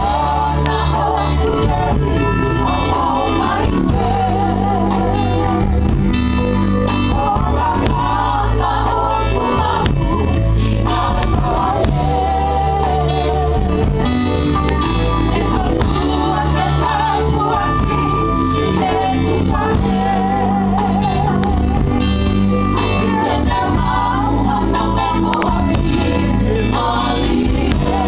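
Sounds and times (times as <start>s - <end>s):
plucked guitar: 0.0s - 28.0s
steady bass line: 0.0s - 28.0s
vocal group singing: 0.0s - 28.0s.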